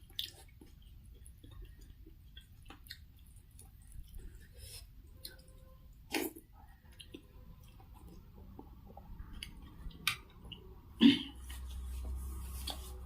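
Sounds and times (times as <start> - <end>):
chewing and eating soup: 0.0 - 13.0.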